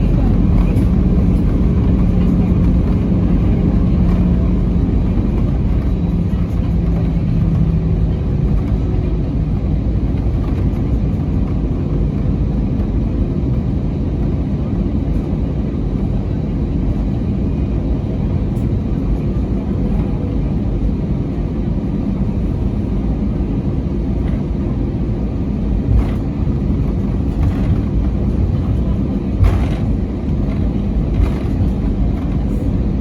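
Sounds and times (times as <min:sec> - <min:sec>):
aircraft rumble: 0:00.0 - 0:33.0.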